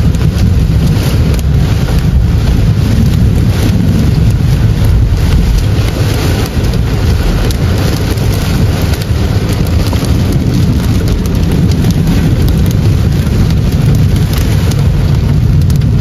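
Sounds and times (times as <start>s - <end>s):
car and tyres rumbling on wet road: 0.0s - 16.0s
heavy rain on a car: 0.0s - 16.0s.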